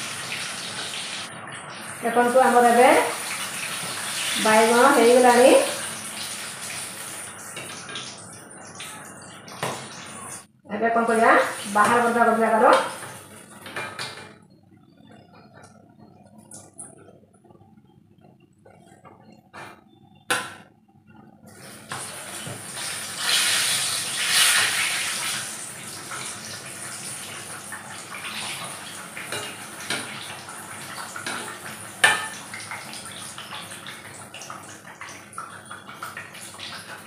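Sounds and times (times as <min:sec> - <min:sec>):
frying in hot oil: 0:00.0 - 0:17.2, 0:21.4 - 0:37.0.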